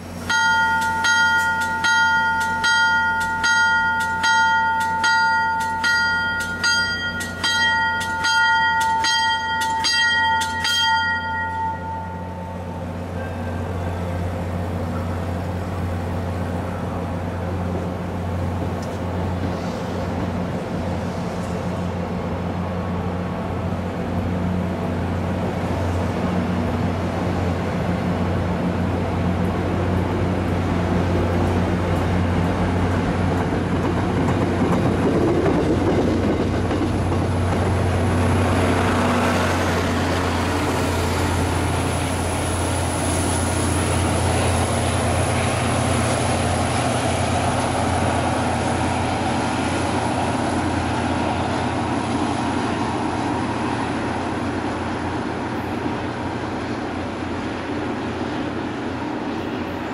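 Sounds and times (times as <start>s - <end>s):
diesel locomotive engine drone: 0.0s - 59.9s
train coaches rolling past: 0.0s - 59.9s.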